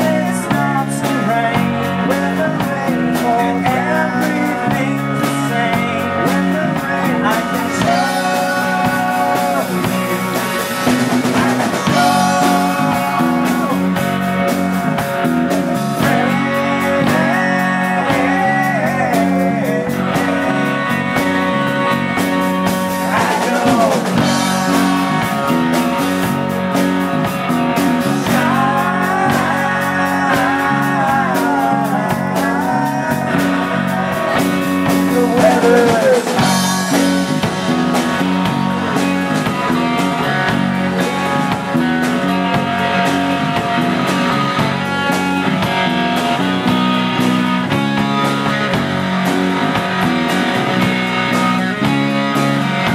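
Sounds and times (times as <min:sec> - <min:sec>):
man singing: 0:00.0 - 0:26.5, 0:27.2 - 0:48.6
drum kit: 0:00.0 - 0:52.9
electric guitar: 0:00.0 - 0:52.9.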